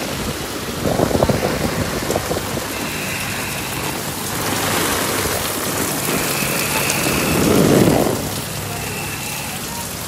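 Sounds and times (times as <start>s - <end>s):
heavy rain drumming on tarpaulin: 0.0s - 10.0s
rain splashing on flooded concrete: 0.0s - 10.0s.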